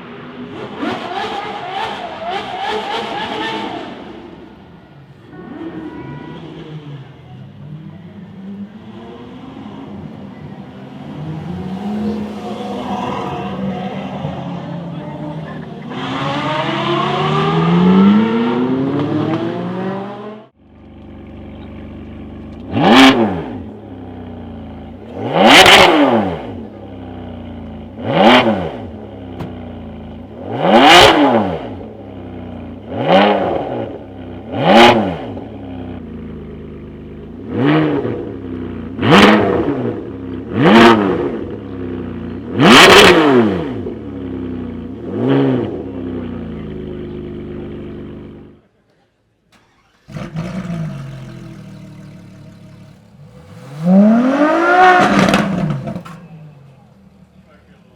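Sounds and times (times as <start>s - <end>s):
engine idling and revving: 0.0s - 48.7s, 49.4s - 57.9s
engine accelerating hard: 8.3s - 36.1s, 36.8s - 48.6s, 49.6s - 57.8s.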